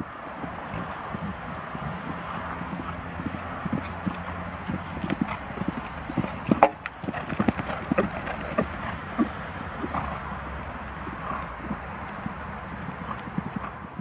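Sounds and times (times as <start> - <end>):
horse hooves thudding on sand: 0.0 - 14.0.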